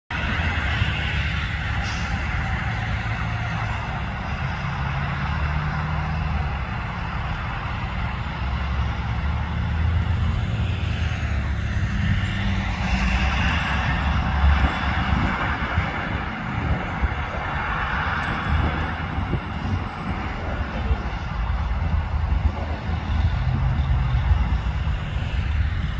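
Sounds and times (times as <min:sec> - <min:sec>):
diesel locomotive rumble: 0:00.1 - 0:25.9
road traffic: 0:00.1 - 0:25.9.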